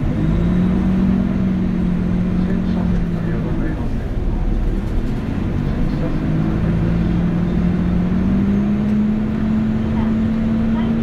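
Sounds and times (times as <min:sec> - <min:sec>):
bus diesel engine drone: 0:00.0 - 0:11.0
road rumble: 0:00.0 - 0:11.0.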